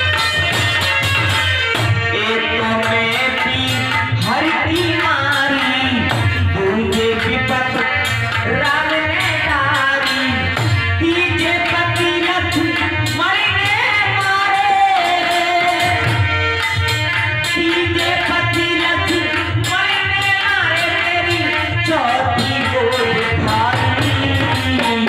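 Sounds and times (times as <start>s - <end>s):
hand drums steady beat: 2.8s - 25.0s.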